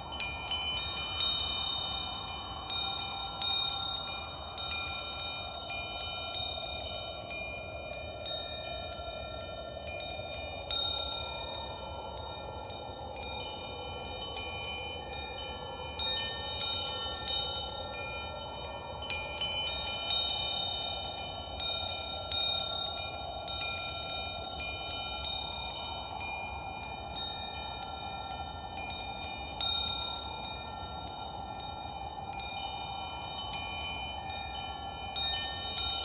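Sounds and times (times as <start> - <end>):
metal wind chimes ringing: 0.0 - 36.0.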